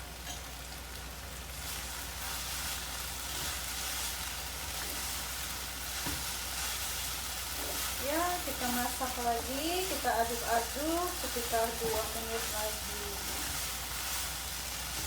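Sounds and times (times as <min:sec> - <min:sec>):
noodles sizzling in a hot pan: 0:00.0 - 0:15.0.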